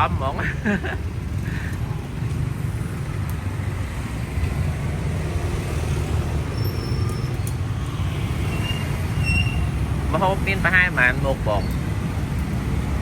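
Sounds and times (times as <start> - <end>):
motorcycle road and wind rumble: 0.0 - 13.0.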